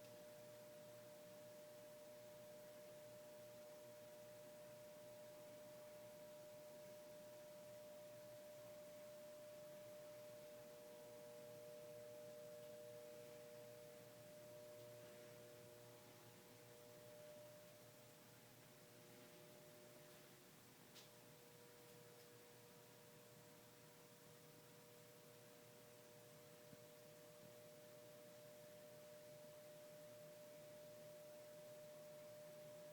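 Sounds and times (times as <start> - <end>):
faint steady hum of held tones: 0.0 - 32.9.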